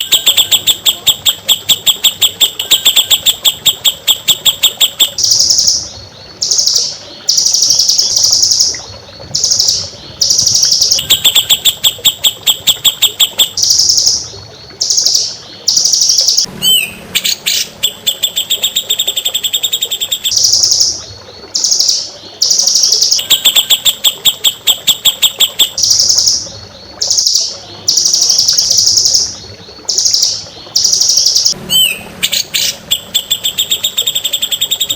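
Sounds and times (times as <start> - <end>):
songbird trilling song: 0.0 - 34.9.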